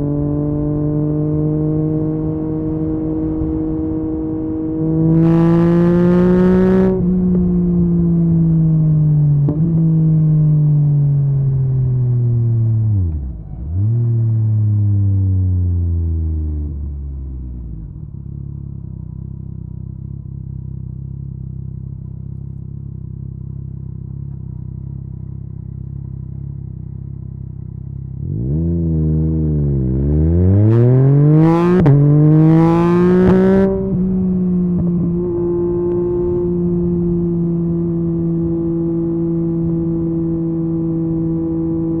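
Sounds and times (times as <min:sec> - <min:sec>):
motorcycle engine revving: 0:00.0 - 0:16.9, 0:17.8 - 0:42.0.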